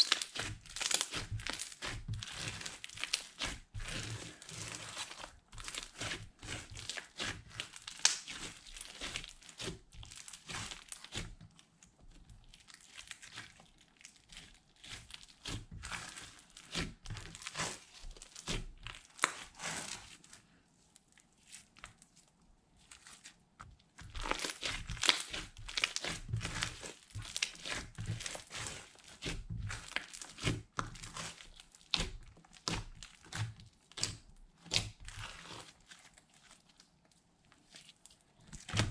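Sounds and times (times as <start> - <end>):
slime crackling and popping: 0.0 - 11.4, 12.4 - 20.2, 23.9 - 36.8.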